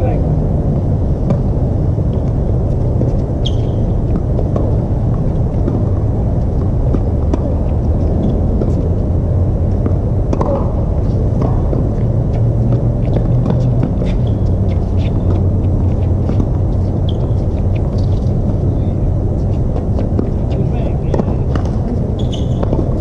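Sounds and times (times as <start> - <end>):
loud low rumble: 0.0 - 23.0.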